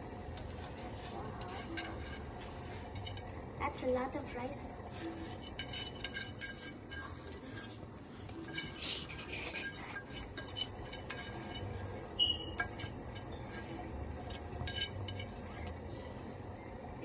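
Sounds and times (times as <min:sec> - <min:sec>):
utensils clinking against a pot: 0:00.3 - 0:03.4, 0:04.8 - 0:16.0.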